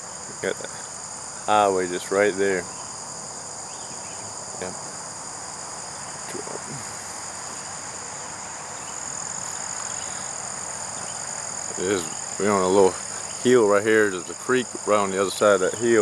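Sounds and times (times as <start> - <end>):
distant highway traffic rush: 0.0 - 16.0
insect chorus buzzing: 0.0 - 16.0.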